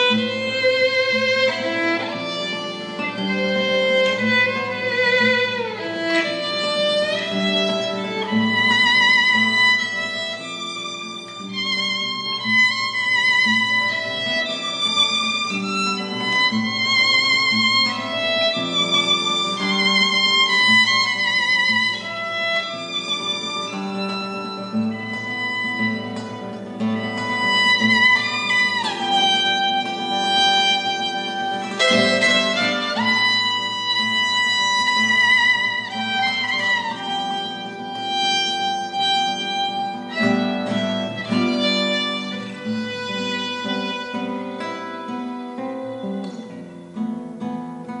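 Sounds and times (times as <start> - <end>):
violin melody with vibrato: 0.0 - 46.7.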